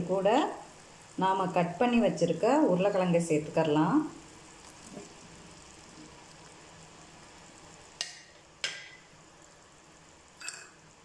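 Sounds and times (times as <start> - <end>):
masala sizzling in frying pan: 0.0 - 11.0.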